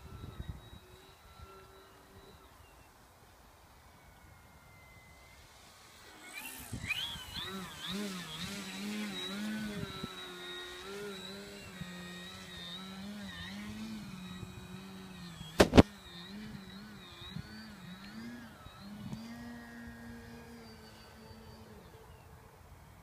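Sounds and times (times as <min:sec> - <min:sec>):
electric motor and propeller whine: 0:00.0 - 0:23.0.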